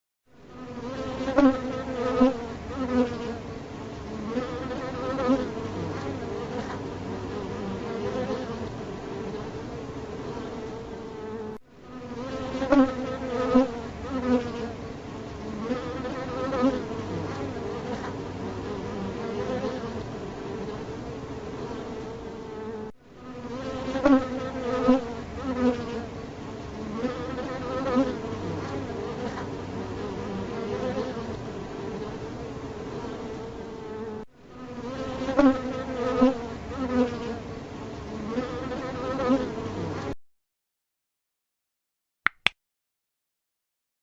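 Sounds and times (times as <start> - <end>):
bees buzzing: 0.5 - 40.1.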